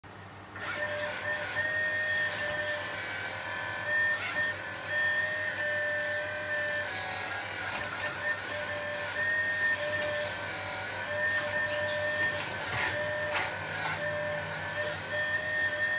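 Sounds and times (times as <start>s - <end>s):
hydraulic pump whine: 0.5s - 15.9s.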